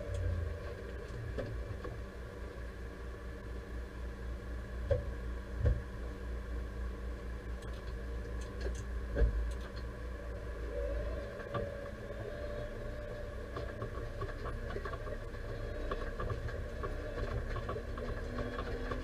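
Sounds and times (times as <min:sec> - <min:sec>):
tractor engine rumbling: 0:00.0 - 0:06.0, 0:07.4 - 0:19.0.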